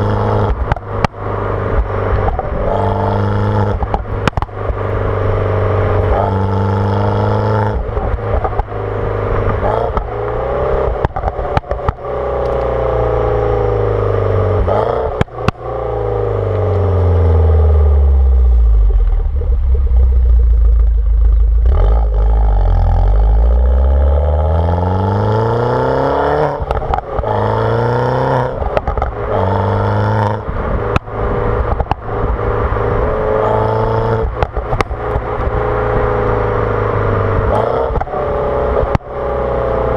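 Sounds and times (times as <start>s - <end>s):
car engine accelerating hard: 0.0s - 39.9s
exhaust crackles and pops: 0.0s - 39.9s.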